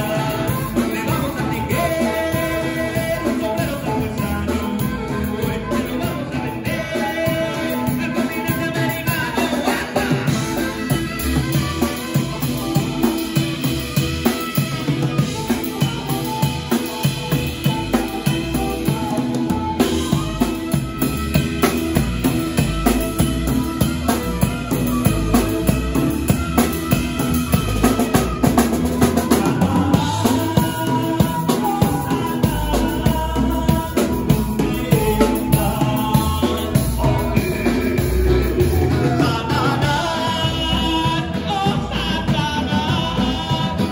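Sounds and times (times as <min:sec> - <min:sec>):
drum kit beat: 0:00.0 - 0:43.9
live band playing: 0:00.0 - 0:43.9.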